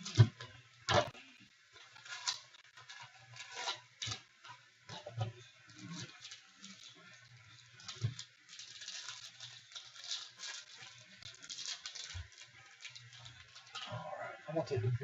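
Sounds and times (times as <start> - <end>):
cards and packaging rustling: 0.0 - 14.0.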